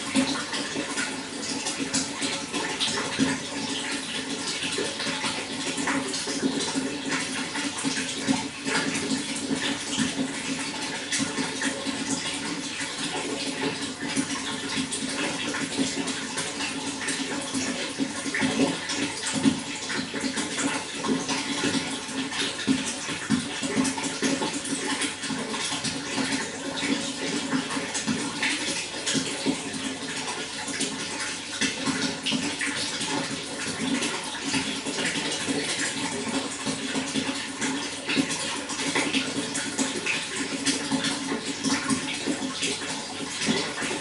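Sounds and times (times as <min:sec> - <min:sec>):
running water rushing: 0:00.0 - 0:44.0.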